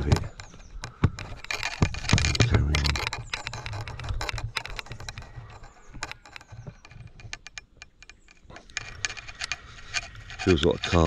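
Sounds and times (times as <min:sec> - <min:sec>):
handling rumble: 0:00.0 - 0:11.0.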